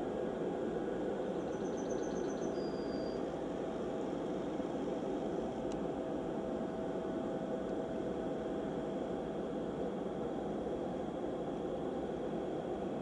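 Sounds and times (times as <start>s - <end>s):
faint steady hum: 0.0s - 13.0s
jet engines at low power: 0.0s - 13.0s.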